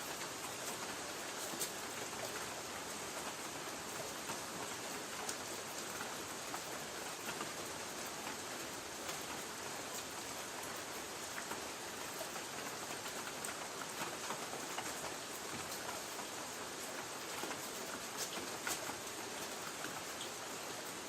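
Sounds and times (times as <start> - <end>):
rain pattering on a tin roof: 0.0 - 21.0.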